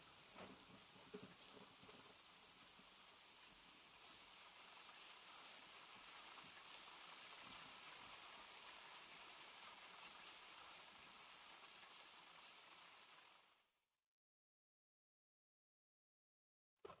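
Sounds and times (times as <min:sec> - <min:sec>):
faint steady rain: 0:00.0 - 0:13.8.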